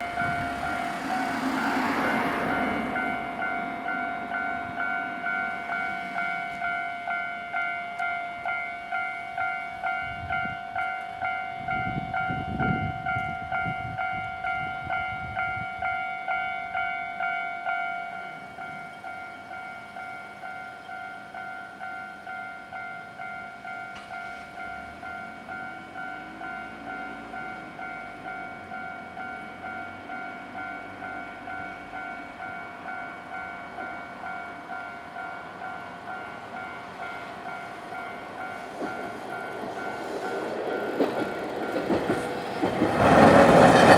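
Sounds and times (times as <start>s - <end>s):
level crossing warning bell: 0.0s - 43.9s
rumble of approaching tram: 0.0s - 43.9s.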